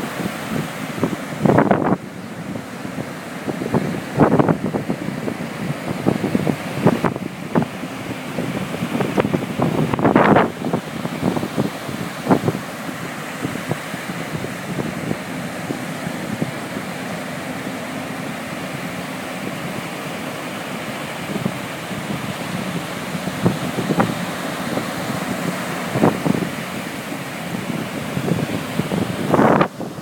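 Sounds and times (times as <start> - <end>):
low engine hum: 0.0 - 30.0
waves breaking on beach: 0.0 - 30.0
wind buffeting microphone: 0.0 - 30.0.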